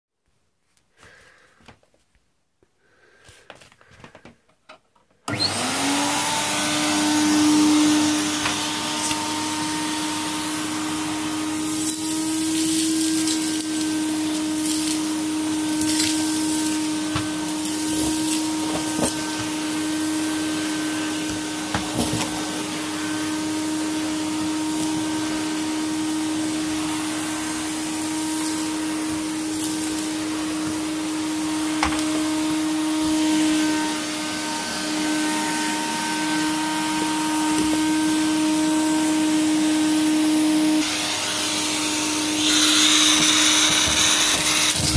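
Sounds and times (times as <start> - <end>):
vacuum cleaner motor whine: 5.2 - 44.9.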